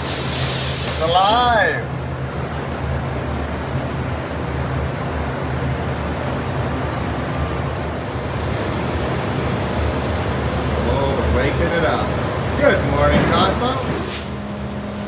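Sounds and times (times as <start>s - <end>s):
machinery humming and hissing: 0.0s - 15.0s.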